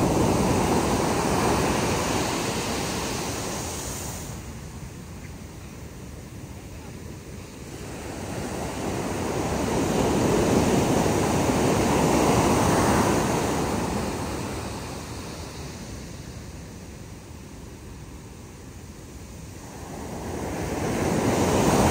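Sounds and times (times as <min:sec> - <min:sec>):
ocean waves washing on sand: 0:00.0 - 0:21.9.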